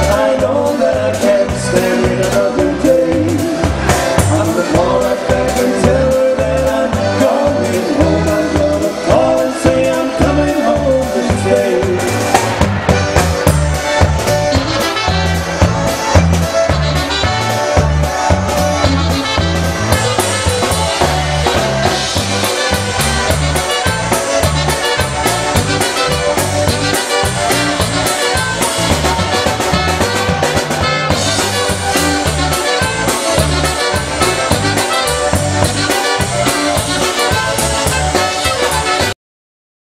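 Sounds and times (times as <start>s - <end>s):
polka band playing: 0.0s - 39.2s
saxophone melody: 1.3s - 39.2s.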